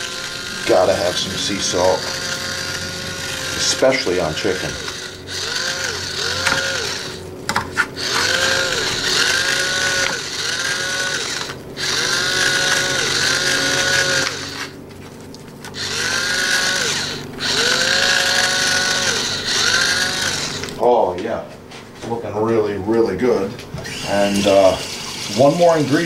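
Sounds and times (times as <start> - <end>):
electric salt grinder whirring: 0.0 - 20.8, 23.8 - 26.0.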